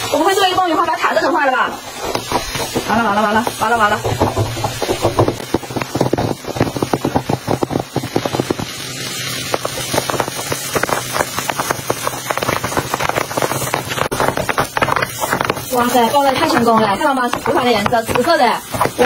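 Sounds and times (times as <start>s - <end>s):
popcorn popping in oil: 0.0s - 19.0s.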